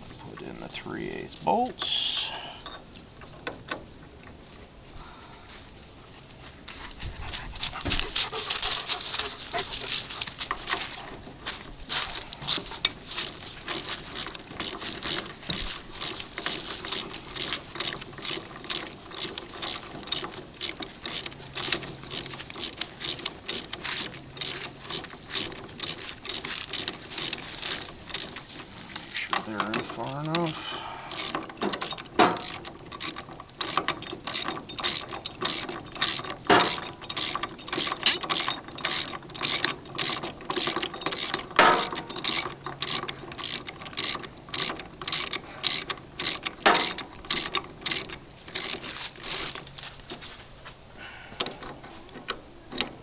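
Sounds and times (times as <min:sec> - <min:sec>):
metallic clicking and rattling: 0:02.6 - 0:04.4, 0:07.2 - 0:50.4, 0:51.4 - 0:53.0.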